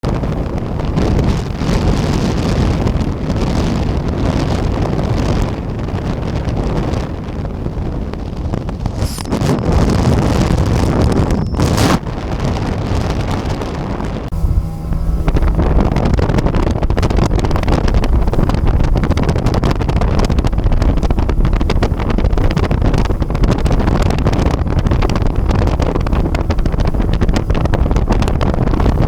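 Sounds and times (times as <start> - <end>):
outboard engine running: 0.0 - 29.0
wind buffeting microphone: 0.0 - 29.0.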